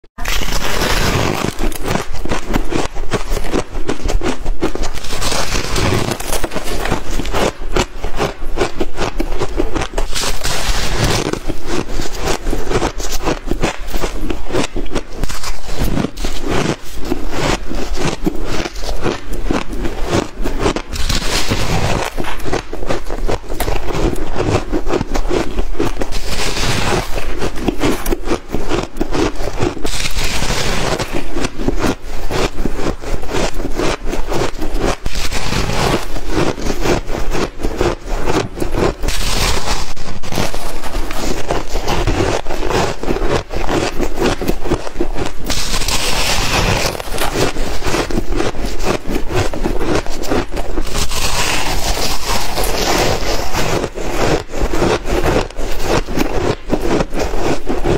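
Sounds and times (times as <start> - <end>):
shaved ice being chewed: 0.2 - 57.9.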